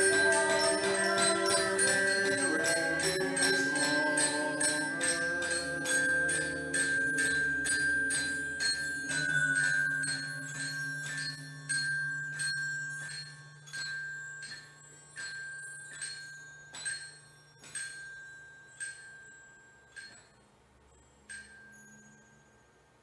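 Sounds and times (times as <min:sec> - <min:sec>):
glockenspiel high note strokes: 0:00.0 - 0:23.0.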